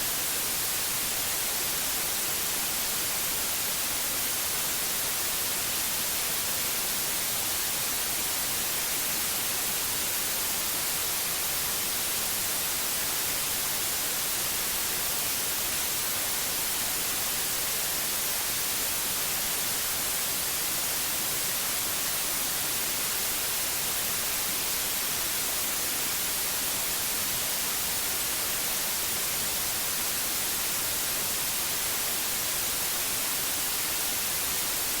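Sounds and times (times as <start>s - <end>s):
white noise hiss: 0.0s - 35.0s.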